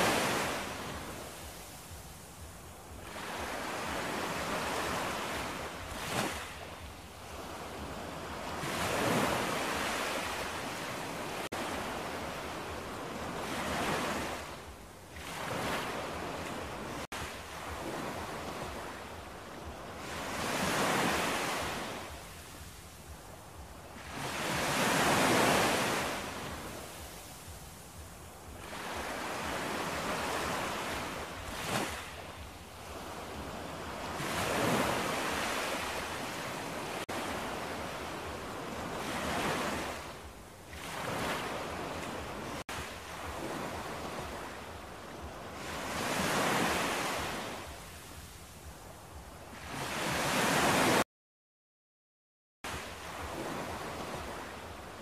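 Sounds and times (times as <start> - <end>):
sea surf washing onto shore: 0.0 - 48.4.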